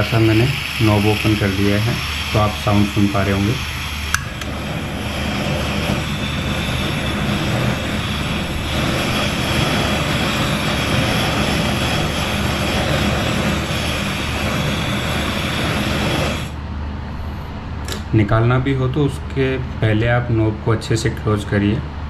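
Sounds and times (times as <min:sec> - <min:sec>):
gas burner roaring: 0:00.0 - 0:22.0.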